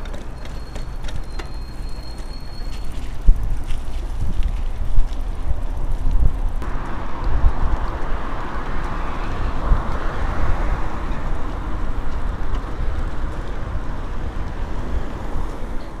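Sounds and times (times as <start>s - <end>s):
road and traffic noise: 0.0s - 16.0s
wind buffeting microphone: 2.9s - 16.0s.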